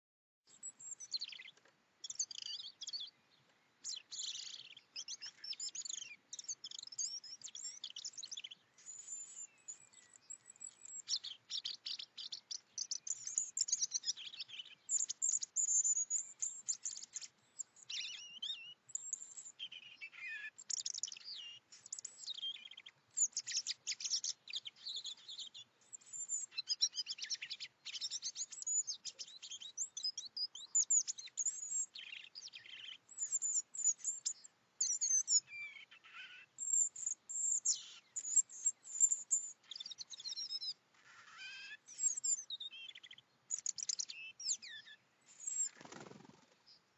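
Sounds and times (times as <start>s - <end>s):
robin singing: 0.5s - 46.9s.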